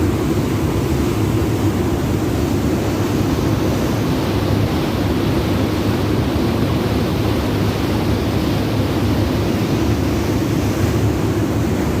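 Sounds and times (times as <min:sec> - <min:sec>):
churning water rushing: 0:00.0 - 0:12.0
ferry engine drone: 0:00.0 - 0:12.0.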